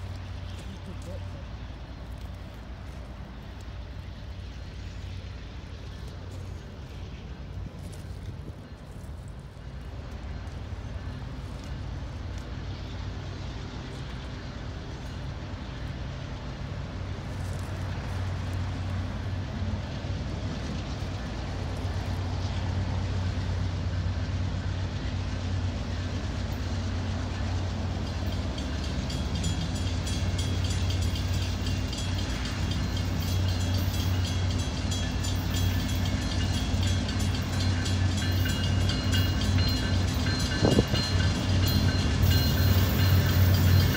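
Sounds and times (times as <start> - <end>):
diesel locomotive engine drone: 0.0 - 43.9.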